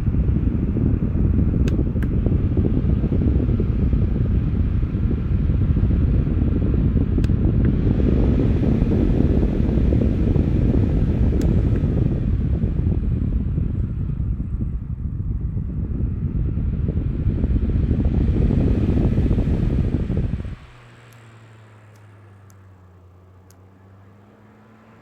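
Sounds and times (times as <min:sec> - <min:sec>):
faint motor whine: 0:00.0 - 0:25.0
fan airflow buffeting microphone: 0:00.0 - 0:25.0.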